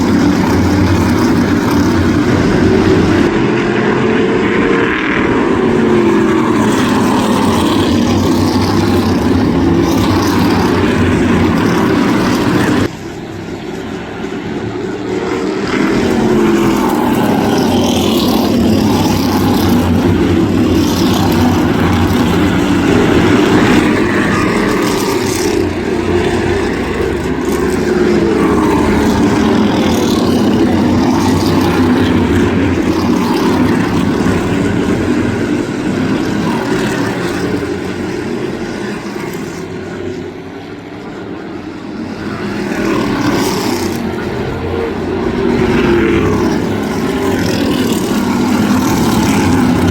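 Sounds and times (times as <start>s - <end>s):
race car engines passing: 0.0s - 49.9s.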